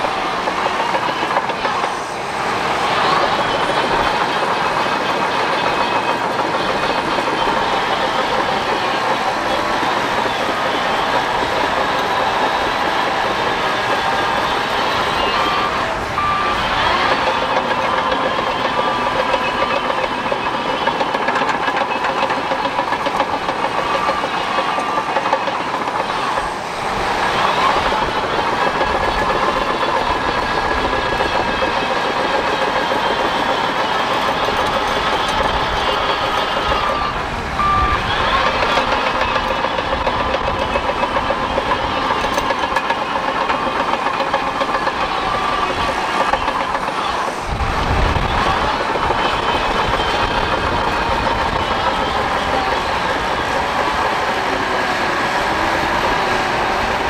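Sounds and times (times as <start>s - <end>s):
reversing alarm beeps: 0.0s - 56.3s
bulldozer engine and tracks: 0.0s - 57.0s.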